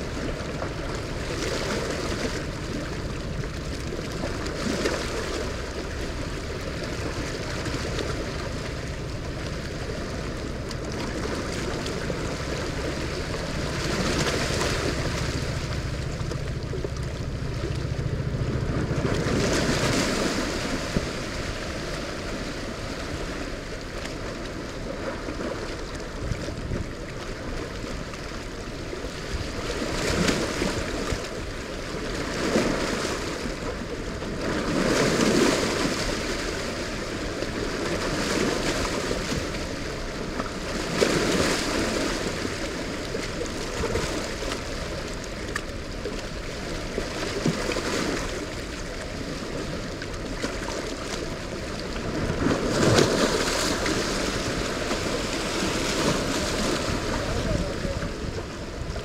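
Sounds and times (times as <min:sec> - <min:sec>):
rushing churning water: 0:00.0 - 0:59.0
wind rumble on microphone: 0:00.0 - 0:59.0.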